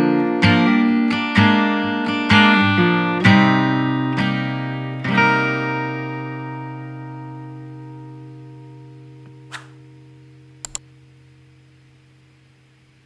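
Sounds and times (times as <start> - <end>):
guitar chords strummed: 0.0 - 11.8.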